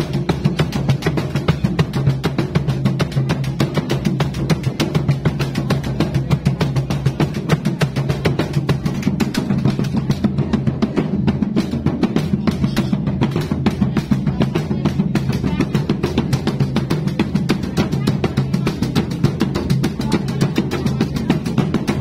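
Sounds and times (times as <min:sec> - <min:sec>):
barrel drums playing fast rhythm: 0:00.0 - 0:22.0.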